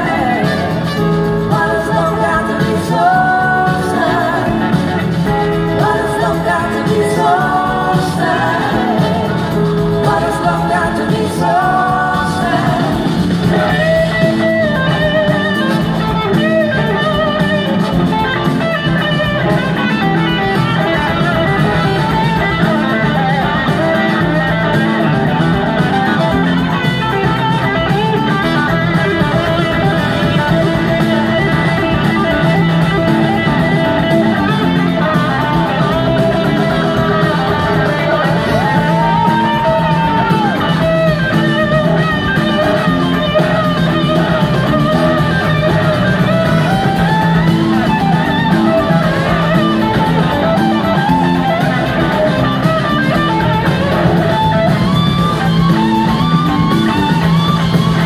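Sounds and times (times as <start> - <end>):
drums: 0.0 - 58.0
electric guitars: 0.0 - 58.0
live rock band playing: 0.0 - 58.0.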